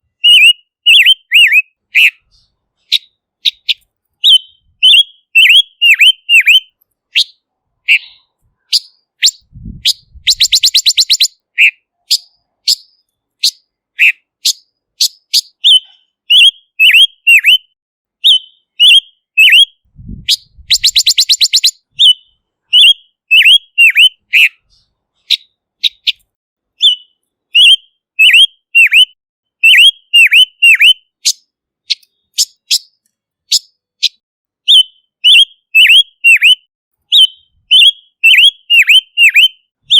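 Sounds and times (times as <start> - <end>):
bird song descending notes: 0.0 - 39.9
bird rapid trill: 0.1 - 39.9.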